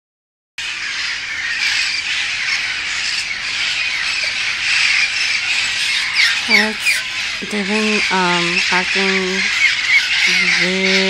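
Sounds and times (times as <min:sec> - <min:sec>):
parrots squawking: 0:00.6 - 0:11.0.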